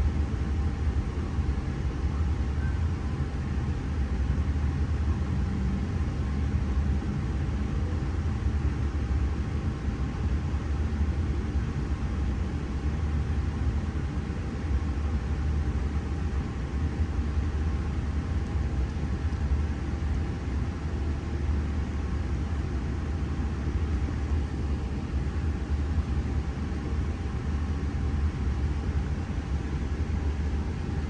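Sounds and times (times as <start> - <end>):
faint steady tone: 0.0 - 31.0.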